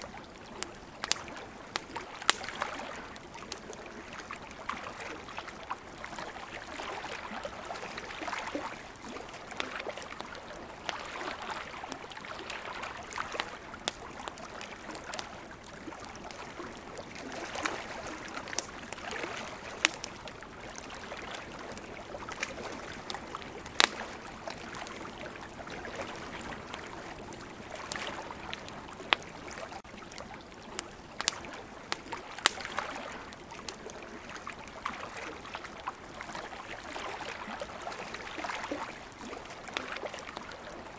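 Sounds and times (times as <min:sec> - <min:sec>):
campfire crackling: 0:00.0 - 0:40.9
ocean waves: 0:03.9 - 0:29.8, 0:30.7 - 0:40.8.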